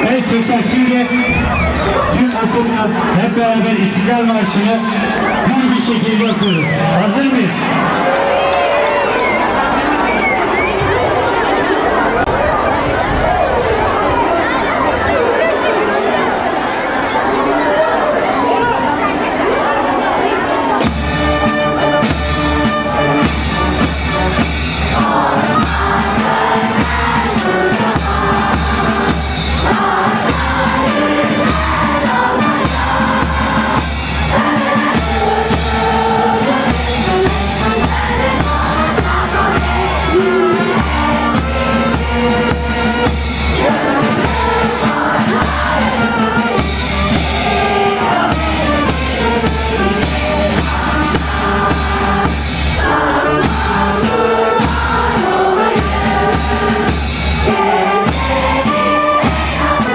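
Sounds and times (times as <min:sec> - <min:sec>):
live band playing: 0:00.0 - 0:15.5, 0:20.5 - 0:59.9.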